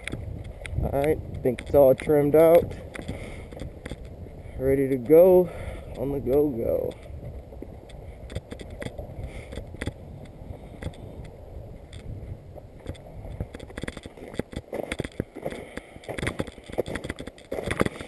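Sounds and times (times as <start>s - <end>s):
crackles and knocks: 0.0s - 5.2s, 6.2s - 18.0s
wind rumbling on microphone: 0.0s - 18.0s.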